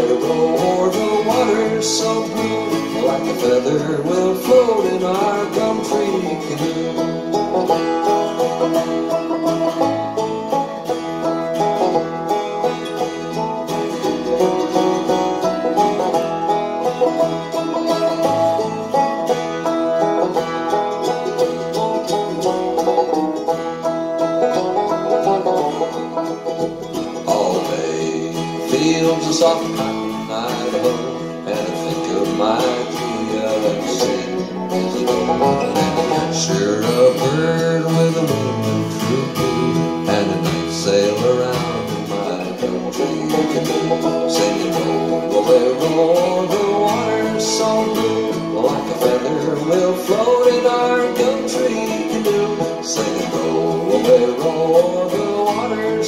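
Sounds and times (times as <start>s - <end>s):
acoustic guitar picked and strummed: 0.0s - 56.0s.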